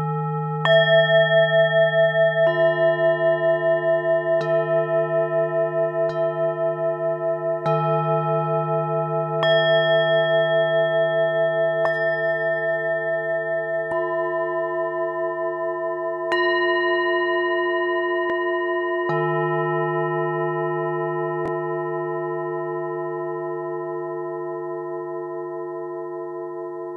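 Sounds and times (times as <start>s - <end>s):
singing bowls ringing: 0.0s - 26.9s.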